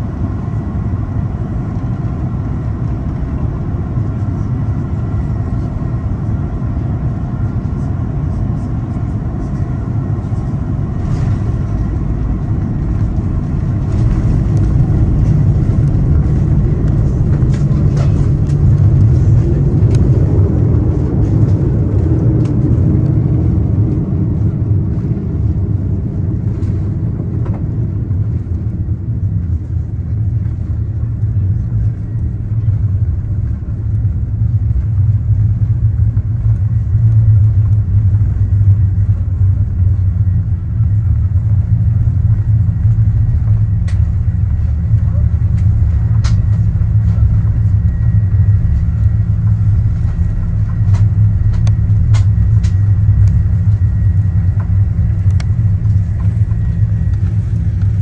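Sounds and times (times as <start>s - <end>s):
aircraft engines rumbling: 0.0s - 58.0s.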